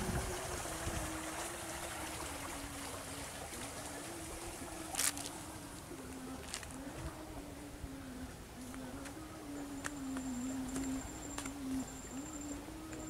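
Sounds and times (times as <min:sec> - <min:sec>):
faint wavering hum: 0:00.0 - 0:13.0
water trickling: 0:00.0 - 0:13.0.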